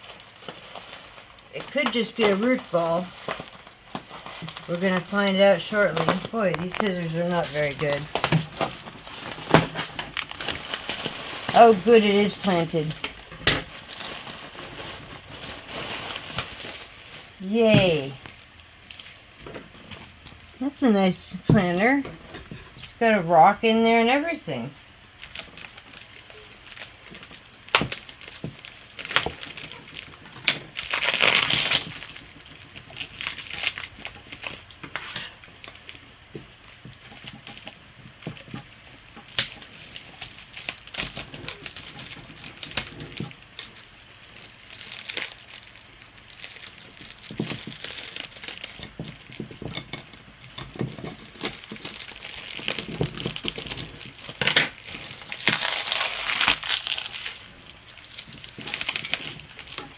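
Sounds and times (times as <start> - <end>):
bubble wrap crinkling and rustling: 0.0 - 59.9.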